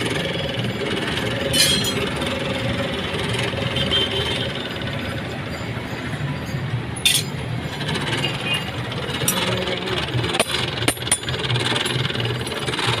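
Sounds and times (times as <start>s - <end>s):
tool on grinding wheel: 0.0s - 13.0s.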